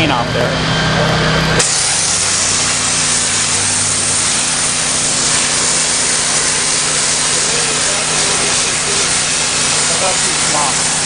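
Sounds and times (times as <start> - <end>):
petrol engine humming: 0.0 - 11.0
pressure washer jet hissing: 1.6 - 11.0.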